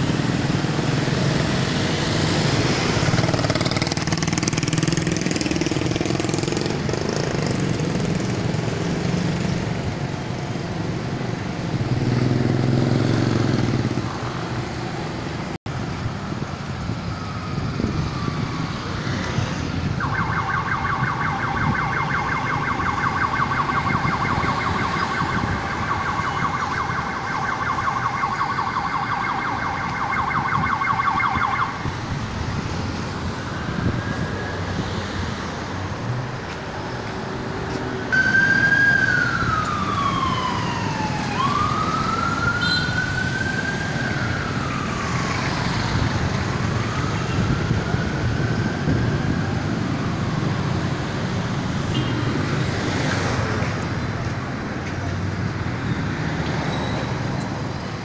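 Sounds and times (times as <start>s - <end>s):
emergency vehicle siren: 0.0s - 36.4s, 38.0s - 58.0s
street traffic: 0.0s - 58.0s.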